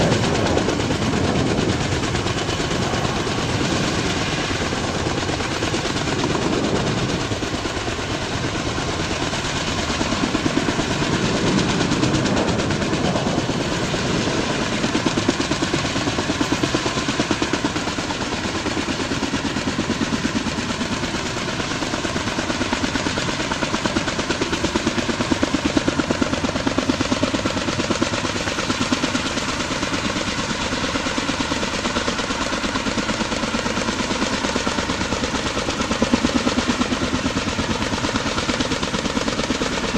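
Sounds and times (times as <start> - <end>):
helicopter rotors beating: 0.0 - 39.9.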